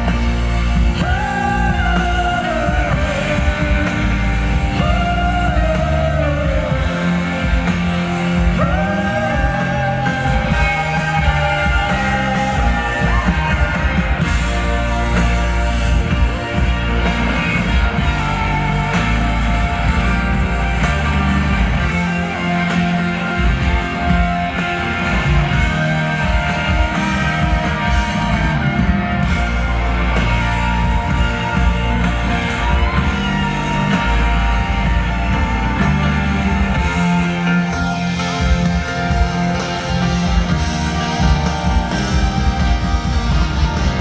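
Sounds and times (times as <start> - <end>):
electric guitar: 0.0 - 44.0
rock band playing loudly: 0.0 - 44.0.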